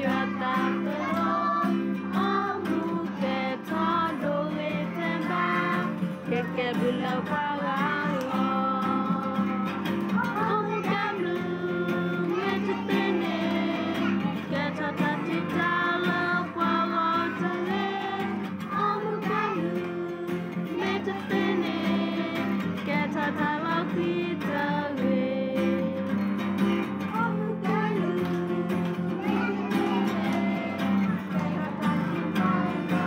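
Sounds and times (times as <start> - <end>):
acoustic guitar: 0.0 - 33.0
children singing: 0.0 - 33.0.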